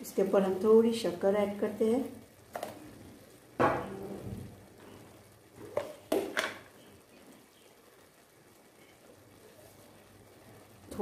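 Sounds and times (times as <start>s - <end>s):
faint simmering pan: 0.0s - 11.0s.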